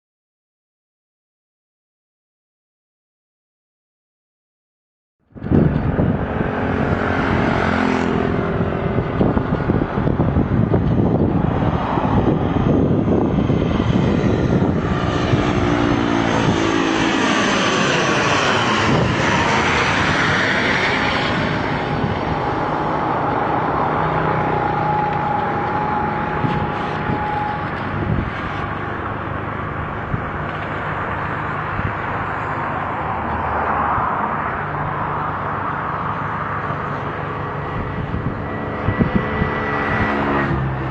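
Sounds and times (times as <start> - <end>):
airplane engine roar overhead: 5.3 - 40.9.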